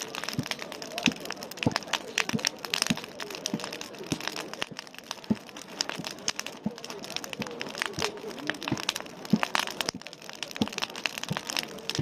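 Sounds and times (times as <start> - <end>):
bonfire crackling and popping: 0.0 - 12.0
crowd murmuring: 0.0 - 12.0.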